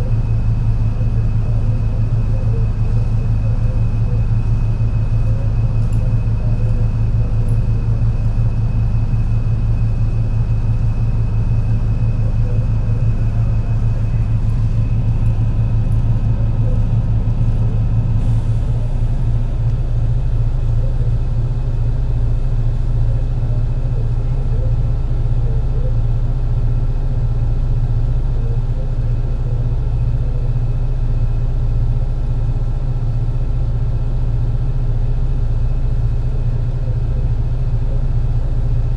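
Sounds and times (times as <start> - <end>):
bus engine deep rumble: 0.0 - 38.9.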